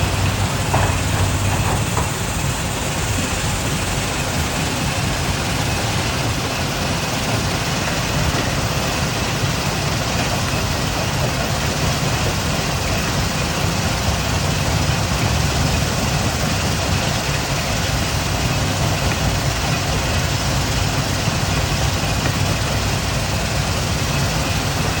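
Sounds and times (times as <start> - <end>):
heavy machinery rumble: 0.0 - 25.0.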